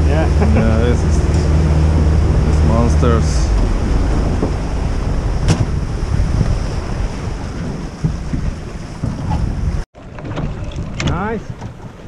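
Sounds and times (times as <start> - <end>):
water rushing along boat hull: 0.0 - 12.0
wind buffeting microphone: 0.0 - 12.0.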